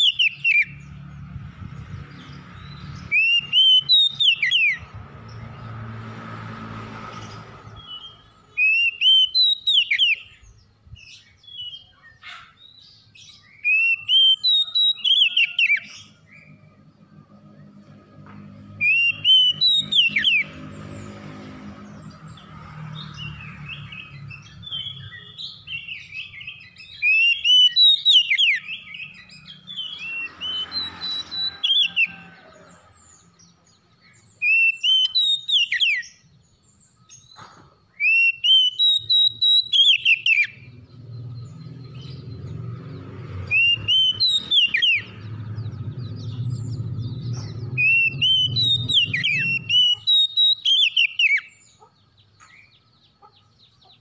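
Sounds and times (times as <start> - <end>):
magpie-robin singing: 0.0 - 1.0, 2.1 - 5.4, 7.7 - 16.6, 18.7 - 20.7, 23.0 - 32.2, 33.0 - 54.0.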